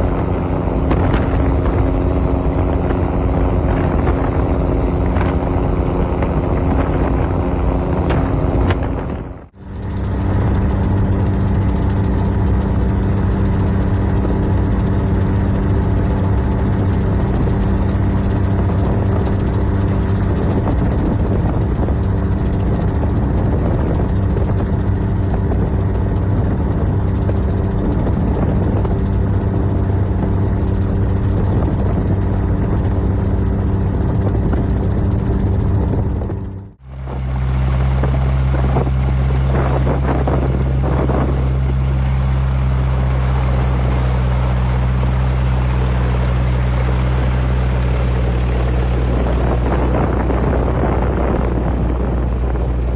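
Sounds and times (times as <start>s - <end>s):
helicopter drone: 0.0s - 52.9s
steady drone: 0.0s - 52.9s.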